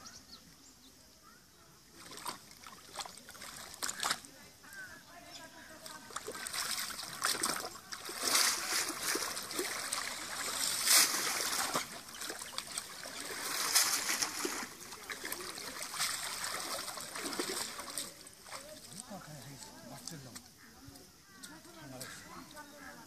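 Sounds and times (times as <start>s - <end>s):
muddy water splashing: 1.8s - 23.0s.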